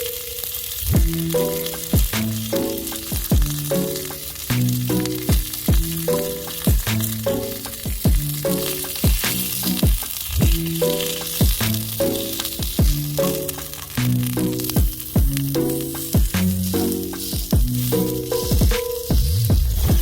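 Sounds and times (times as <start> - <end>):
meat sizzling on a griddle: 0.0 - 19.3
background music with steady beat: 0.8 - 20.0.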